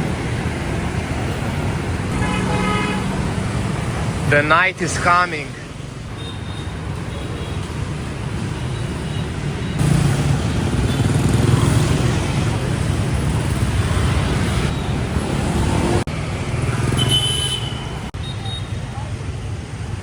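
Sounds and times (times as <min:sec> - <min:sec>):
motor vehicles passing: 0:00.0 - 0:05.8, 0:06.8 - 0:18.1.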